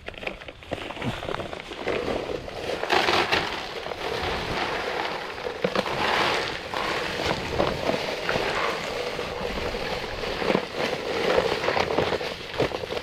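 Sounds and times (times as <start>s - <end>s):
concrete mix crunching and pouring: 0.0s - 13.0s.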